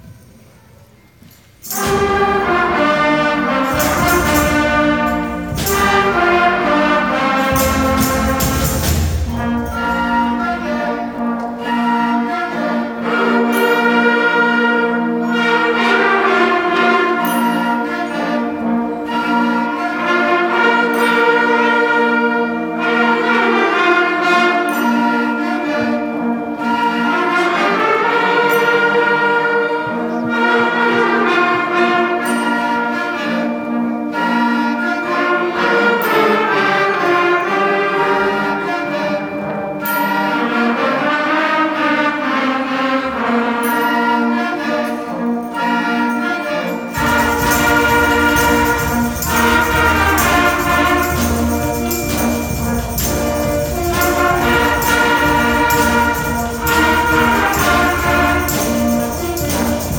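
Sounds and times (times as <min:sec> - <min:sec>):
concert band playing slow piece: 0:00.0 - 0:59.9.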